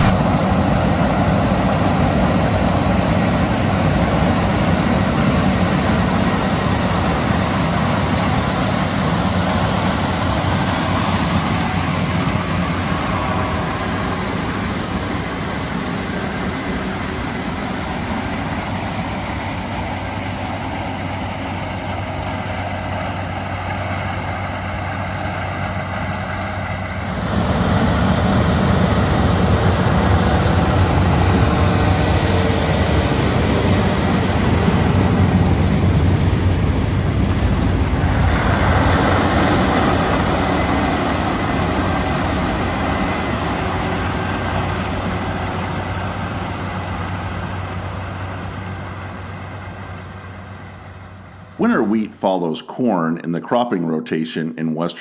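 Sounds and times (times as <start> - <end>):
diesel farm machinery running: 0.0 - 53.0.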